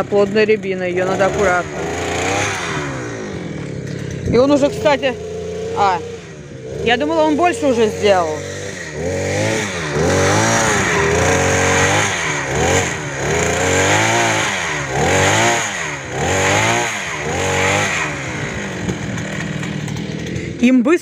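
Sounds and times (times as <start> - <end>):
earth auger engine revving: 0.0 - 21.0.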